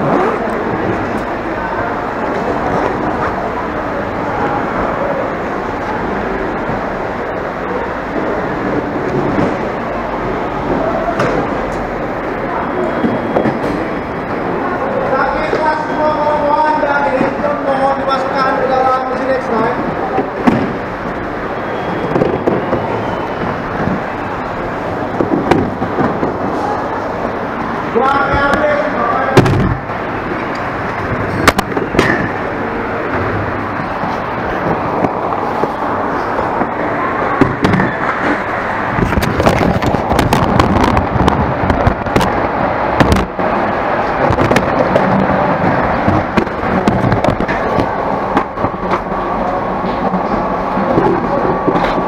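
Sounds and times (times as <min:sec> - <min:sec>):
trays clattering on roller conveyor: 0:00.0 - 0:52.0.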